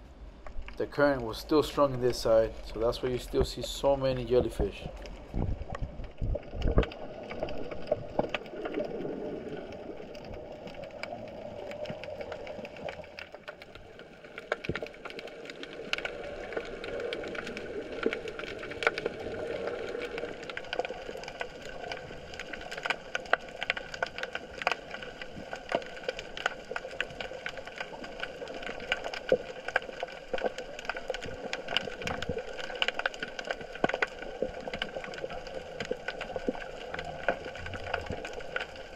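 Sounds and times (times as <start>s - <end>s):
steady underwater hum: 0.0s - 38.9s
underwater crackle of clicks: 0.4s - 38.9s.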